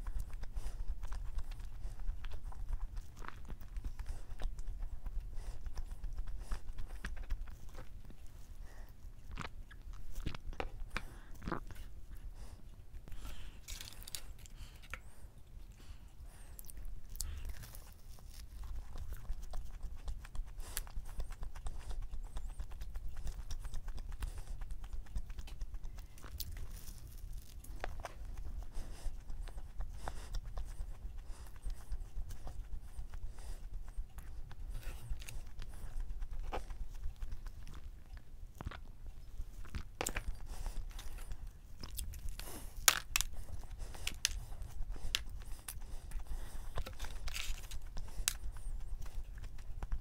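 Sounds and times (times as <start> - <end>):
chewing with wet mouth clicks: 0.0 - 50.0.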